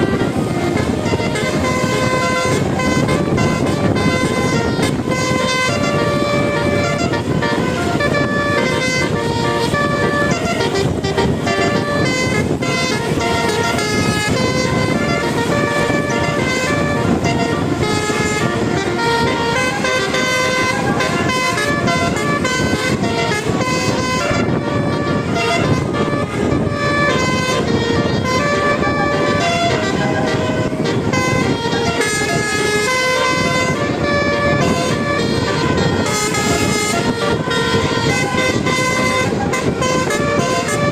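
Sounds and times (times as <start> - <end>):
multi-tone air horn tune: 0.0 - 40.9.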